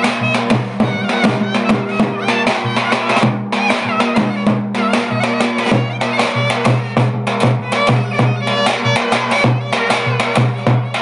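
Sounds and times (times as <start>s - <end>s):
bass drum beating: 0.0s - 11.0s
clarinet folk dance tune: 0.0s - 11.0s.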